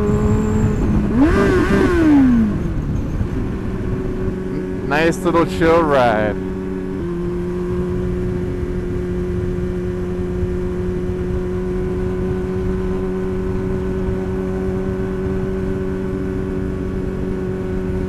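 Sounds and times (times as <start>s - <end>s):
motorcycle engine cruising: 0.0s - 18.0s
wind rumble on microphone: 0.0s - 18.0s.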